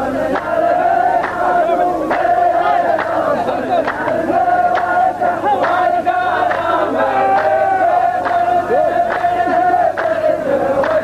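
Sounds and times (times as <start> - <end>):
men chanting in unison: 0.0 - 11.0
hand claps: 0.2 - 11.0.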